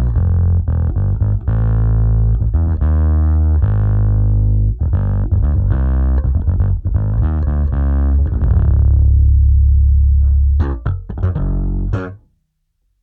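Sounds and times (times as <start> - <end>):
distorted electric bass riff: 0.0 - 12.3.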